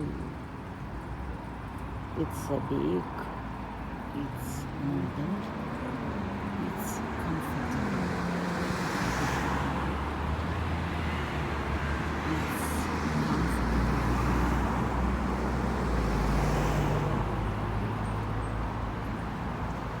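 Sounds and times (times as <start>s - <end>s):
road traffic rush: 0.0s - 20.0s
vehicles passing by: 0.0s - 20.0s.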